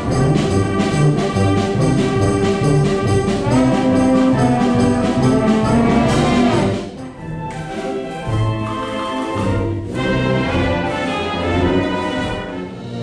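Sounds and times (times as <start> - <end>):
concert band playing: 0.0 - 13.0
low brass beat: 0.0 - 13.0.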